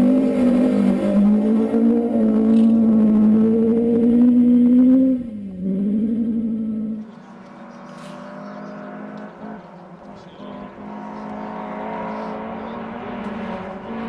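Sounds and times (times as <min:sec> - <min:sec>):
rally car engine running hard: 0:00.0 - 0:14.0.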